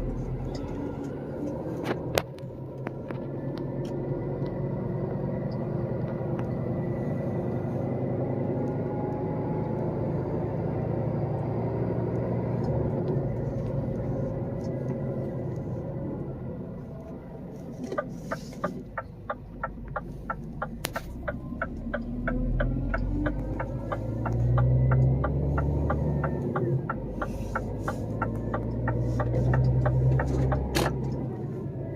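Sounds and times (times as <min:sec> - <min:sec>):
diesel engine rumbling: 0:00.0 - 0:31.9.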